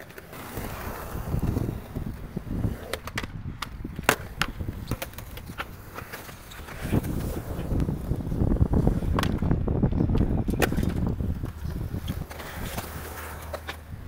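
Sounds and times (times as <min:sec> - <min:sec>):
skateboard clacking on coping: 0:00.0 - 0:14.0
skateboard wheels rolling on concrete: 0:00.0 - 0:14.0.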